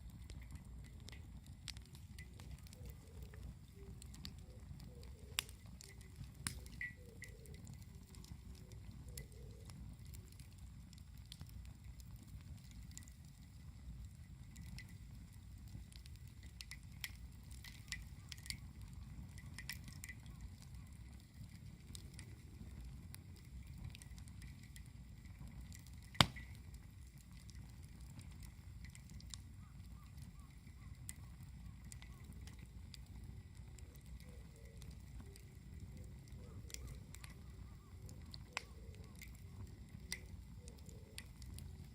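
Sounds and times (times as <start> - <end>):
campfire crackling: 0.0 - 41.9
low fire rumble: 0.0 - 41.9.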